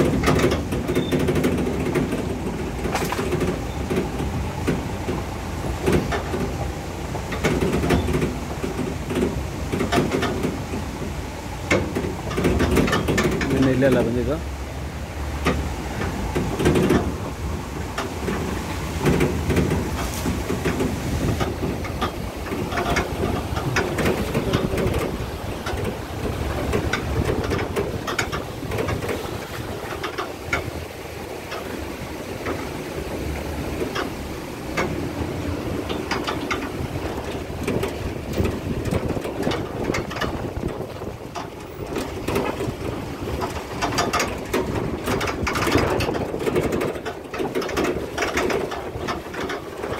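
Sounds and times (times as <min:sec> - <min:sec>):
rattles and knocks: 0:00.0 - 0:49.9
vehicle rumbling on dirt track: 0:00.0 - 0:49.9.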